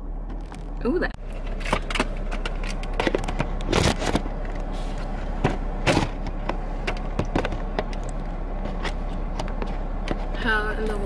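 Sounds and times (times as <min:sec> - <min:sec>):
car cabin engine hum: 0:00.0 - 0:11.0
handling clicks and knocks: 0:00.2 - 0:10.4.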